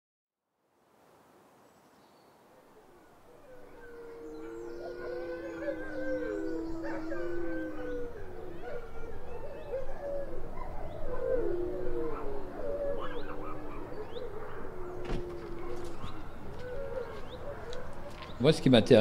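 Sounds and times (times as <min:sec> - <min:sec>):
wolfdogs howling: 0:02.6 - 0:18.5.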